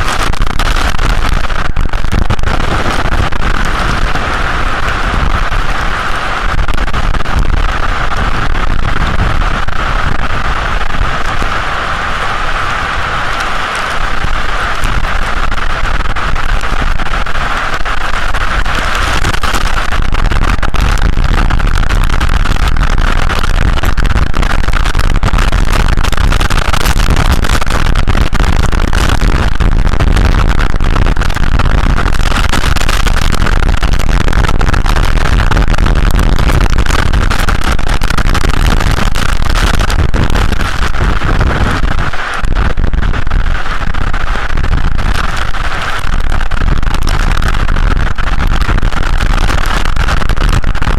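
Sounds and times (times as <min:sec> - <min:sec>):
continuous hiss: 0:00.0 - 0:50.9
deep storm rumble: 0:00.0 - 0:50.9
wind buffeting microphone: 0:00.0 - 0:50.9.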